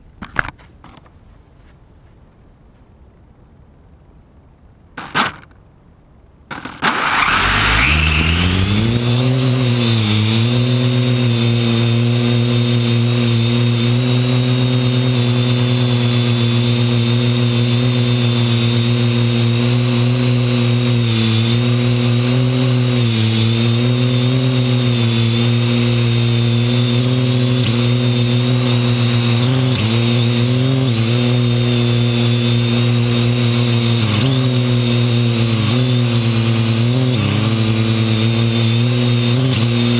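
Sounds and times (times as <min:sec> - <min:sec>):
drone propellers buzzing: 0:06.8 - 0:39.9.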